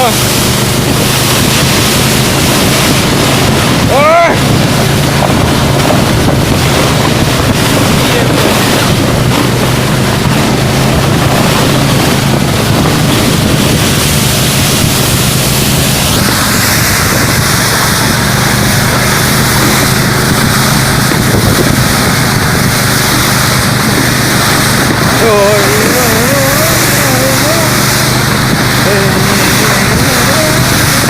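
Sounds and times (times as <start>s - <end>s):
snowmobile engine running: 0.0s - 31.0s
steady high whine: 0.0s - 31.0s
wind buffeting microphone: 0.0s - 31.0s.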